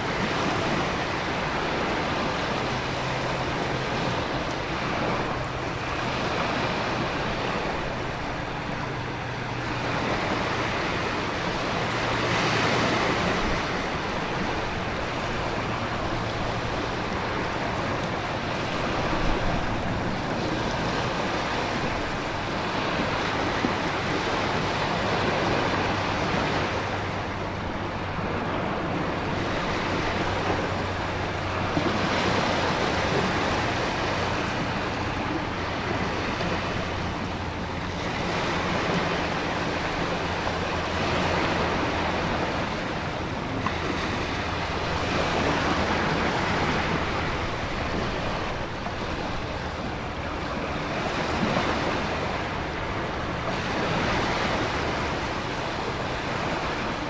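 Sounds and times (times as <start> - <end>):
waves breaking: 0.0 - 57.0
wind-driven rain: 0.0 - 57.0.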